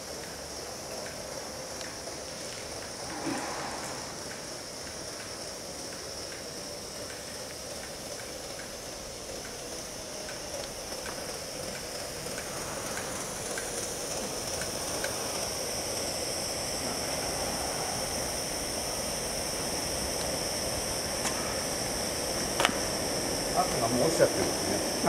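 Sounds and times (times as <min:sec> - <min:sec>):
steam hiss: 0:00.0 - 0:25.0.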